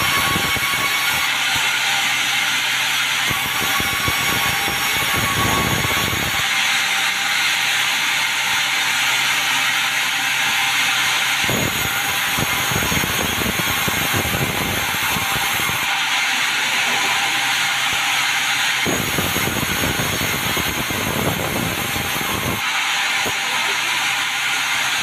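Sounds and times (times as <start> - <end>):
sawmill saw cutting timber: 0.0 - 25.0.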